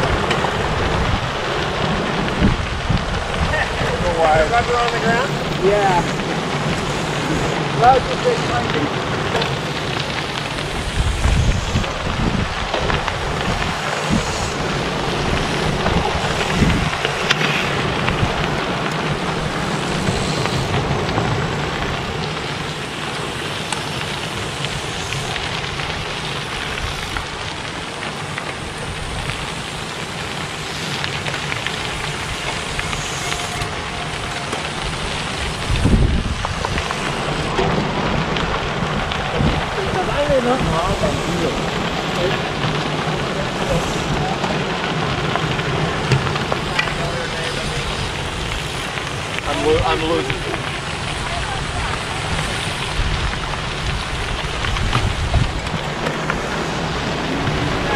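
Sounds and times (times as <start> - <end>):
bicycle tyres crunching gravel: 0.0 - 57.9
wind rumble on microphone: 0.0 - 57.9.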